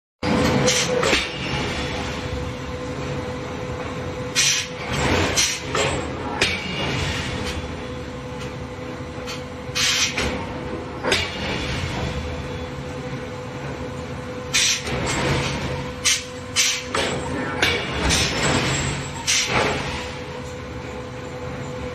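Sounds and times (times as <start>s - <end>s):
forging machinery humming: 0.2s - 21.9s.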